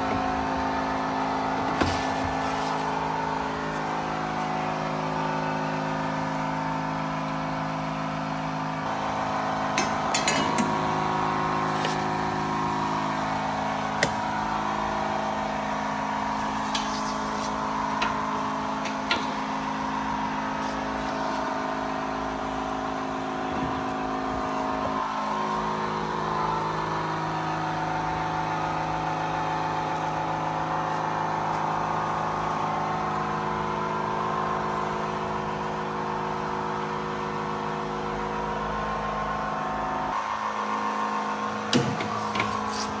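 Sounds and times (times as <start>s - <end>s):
steady machine hum: 0.0s - 43.0s.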